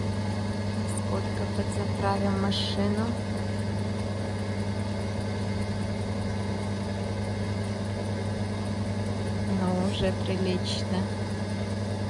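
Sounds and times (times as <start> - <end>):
fuel pump humming: 0.0 - 12.0.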